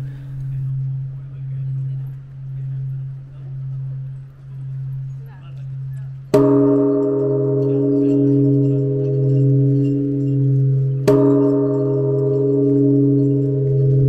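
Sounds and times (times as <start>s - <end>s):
large temple bell ringing: 0.0s - 14.0s.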